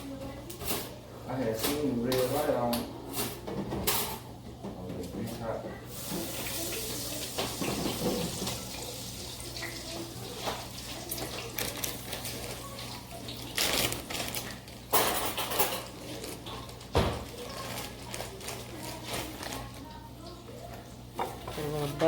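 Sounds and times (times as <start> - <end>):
pots and dishes clinking: 0.6 - 17.9, 20.6 - 22.0.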